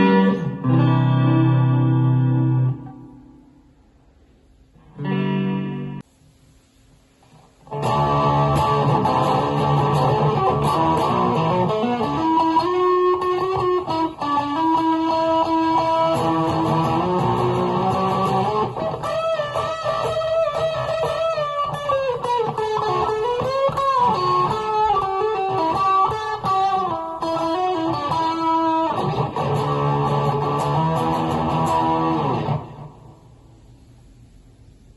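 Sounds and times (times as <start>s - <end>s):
electric guitar chords and melody: 0.0s - 3.7s, 4.7s - 6.1s, 7.4s - 33.4s.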